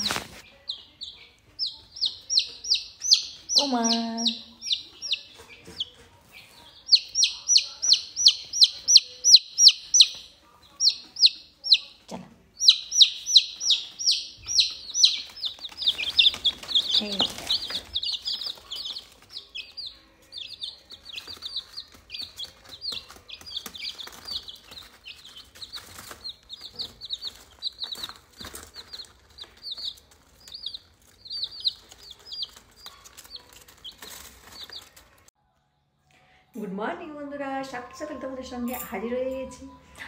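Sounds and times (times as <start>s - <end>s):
parakeet chirping: 0.0s - 5.9s, 6.8s - 34.9s.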